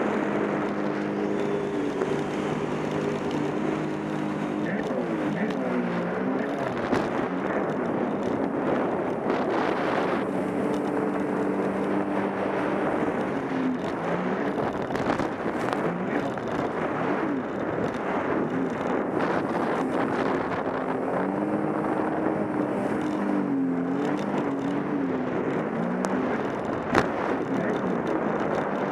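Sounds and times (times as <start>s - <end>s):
personal watercraft engine revving: 0.0s - 28.9s
wind and spray on microphone: 0.0s - 28.9s.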